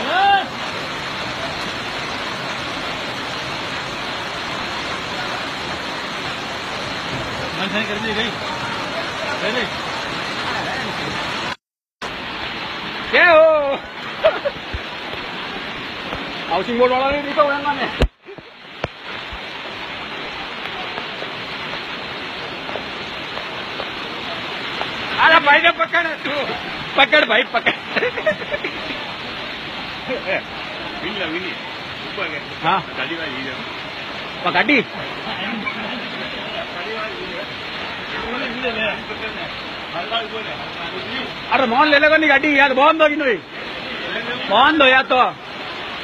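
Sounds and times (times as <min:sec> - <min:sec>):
floodwater rushing: 0:00.0 - 0:46.0.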